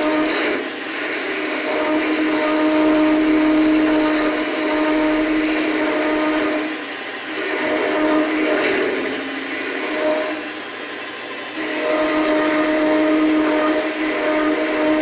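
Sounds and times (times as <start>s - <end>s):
hiss of metal cutting: 0.0s - 15.0s
lathe tool squealing on metal: 0.0s - 15.0s.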